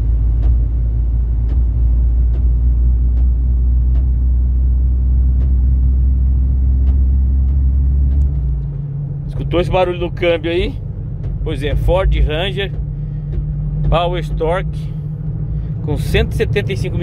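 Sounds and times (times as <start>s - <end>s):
deep steady vehicle drone: 0.0s - 17.0s.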